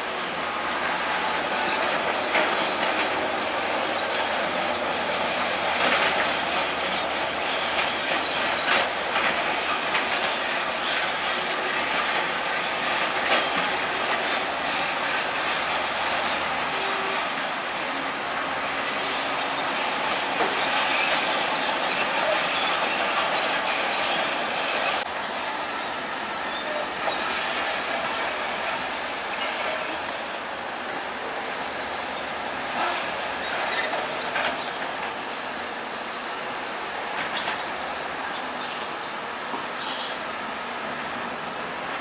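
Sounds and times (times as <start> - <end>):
bulldozer engine: 0.0 - 42.0
steel tracks squealing and clanking: 0.0 - 42.0.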